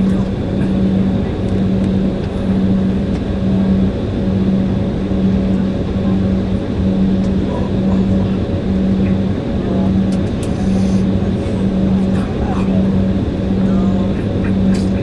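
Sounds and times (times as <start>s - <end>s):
airliner engines droning: 0.0s - 15.0s
low hum: 0.0s - 15.0s.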